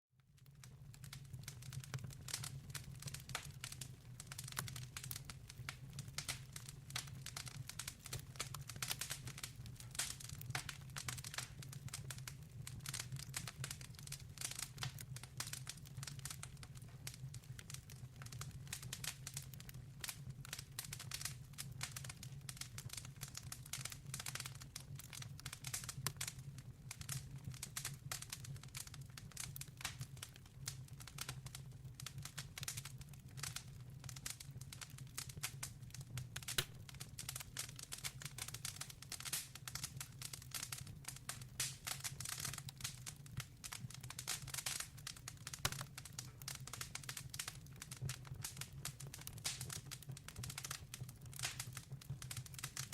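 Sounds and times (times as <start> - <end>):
wood fire crackling: 0.3 - 52.9.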